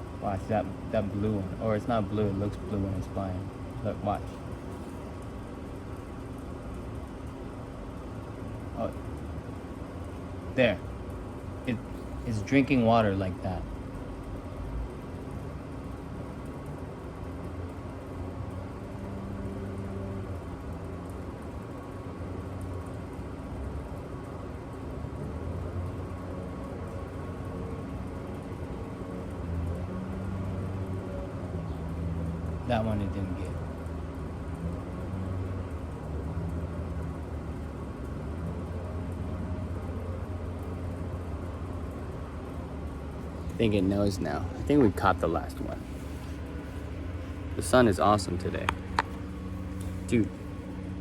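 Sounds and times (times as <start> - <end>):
constant low hum: 0.0 - 51.0
distant city traffic rumble: 0.0 - 51.0.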